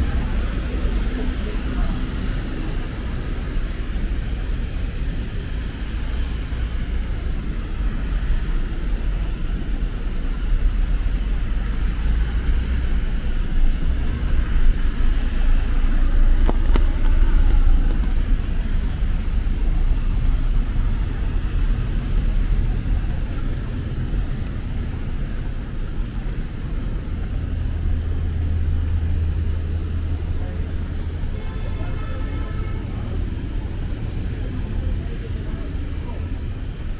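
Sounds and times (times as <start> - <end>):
vehicles passing on wet road: 0.0 - 36.9.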